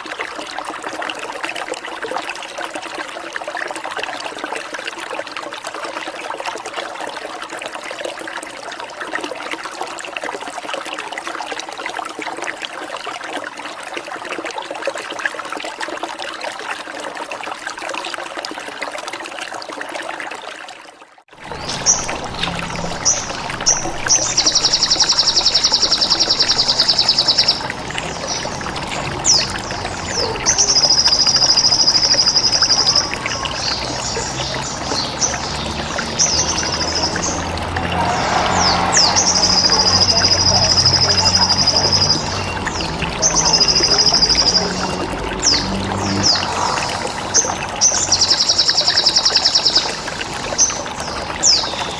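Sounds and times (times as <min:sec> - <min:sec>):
water trickling: 0:00.0 - 0:51.9.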